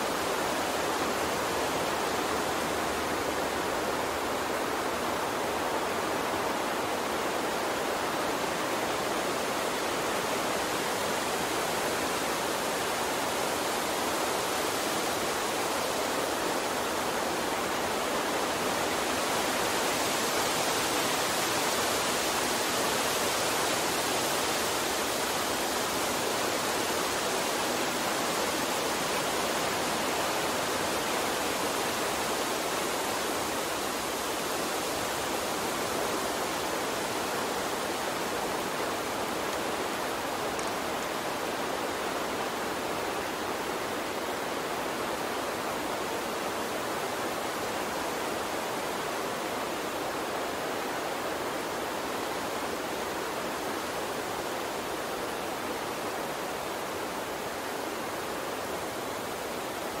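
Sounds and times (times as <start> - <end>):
steady rushing hiss: 0.0 - 60.0.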